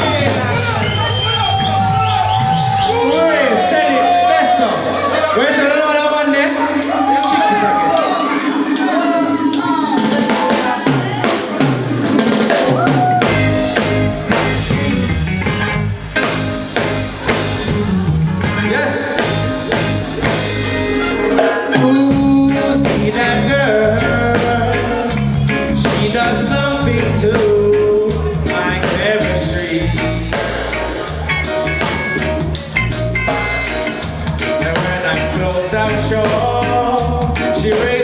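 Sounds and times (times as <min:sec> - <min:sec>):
reggae band playing: 0:00.0 - 0:38.0.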